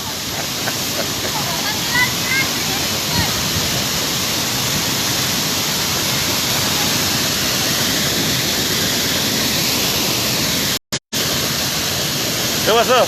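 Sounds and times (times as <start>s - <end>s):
waterfall crashing into pool: 0.0s - 13.0s.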